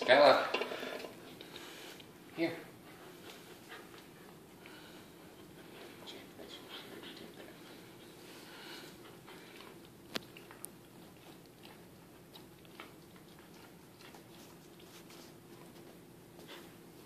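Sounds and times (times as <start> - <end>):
dogs chewing rope toy: 2.9 - 17.0.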